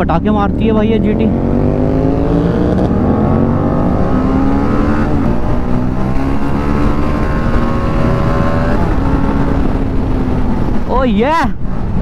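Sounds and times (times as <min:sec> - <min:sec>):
motorcycle engine accelerating: 0:00.0 - 0:10.9.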